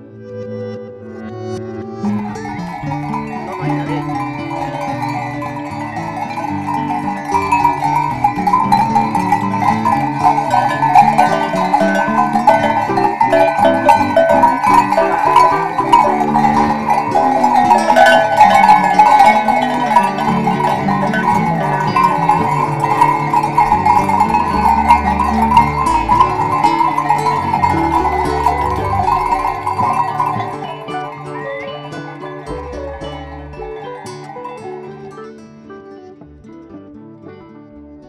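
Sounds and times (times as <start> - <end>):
background music: 0.0 - 38.0
goat bells clanking: 2.0 - 35.2.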